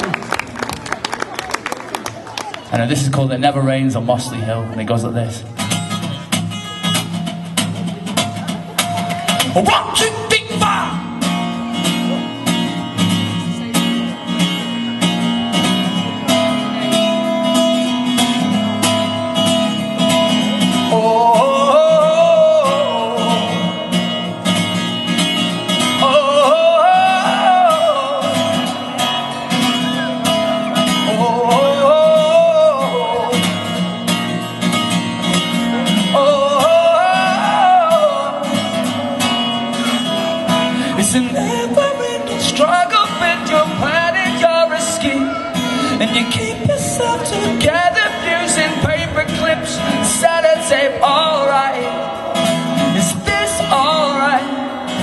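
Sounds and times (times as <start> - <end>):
strummed guitar: 2.6 - 55.0.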